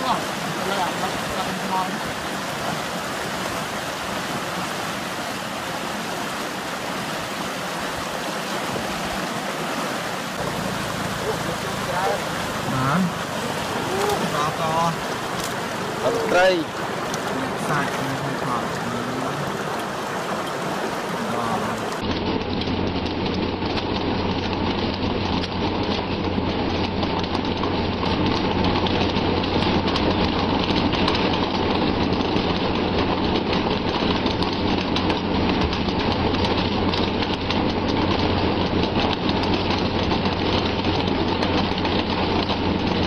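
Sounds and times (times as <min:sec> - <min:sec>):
boat engine droning: 0:00.0 - 0:43.0
rushing sea water and spray: 0:00.0 - 0:43.0.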